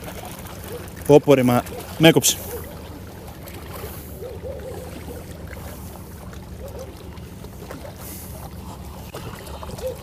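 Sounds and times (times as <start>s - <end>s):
small waves lapping on rocks: 0.0s - 10.0s.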